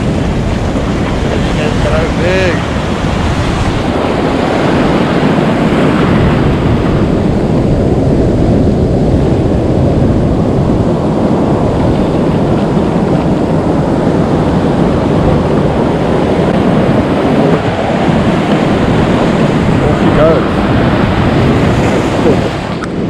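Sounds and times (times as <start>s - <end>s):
surf washing and foaming: 0.0s - 23.0s
wind rumble on microphone: 0.0s - 23.0s.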